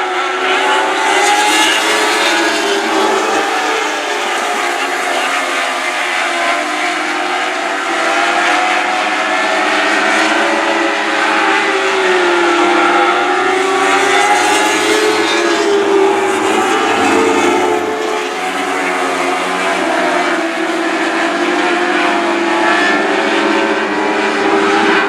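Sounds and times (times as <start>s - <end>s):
race car engines circling: 0.0s - 25.0s.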